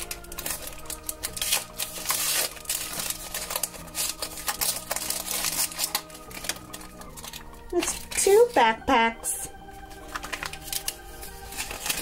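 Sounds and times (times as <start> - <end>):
blister pack crinkling: 0.0 - 8.7, 9.8 - 12.0
soft background music: 0.0 - 12.0.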